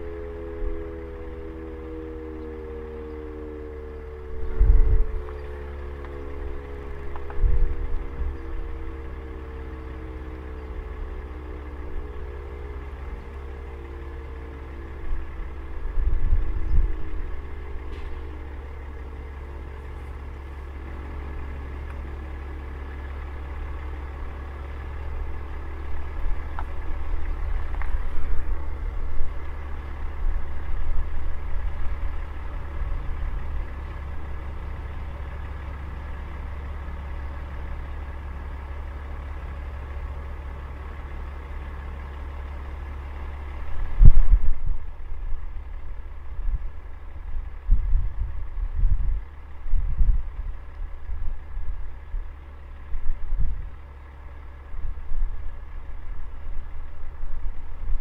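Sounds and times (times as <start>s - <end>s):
faint siren winding down: 0.0s - 48.2s
diesel truck engine idling: 0.0s - 58.0s
low rumbles: 0.0s - 58.0s.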